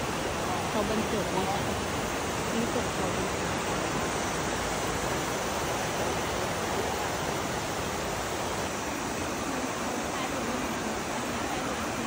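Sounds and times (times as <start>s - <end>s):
water rushing over boulders: 0.0s - 12.0s.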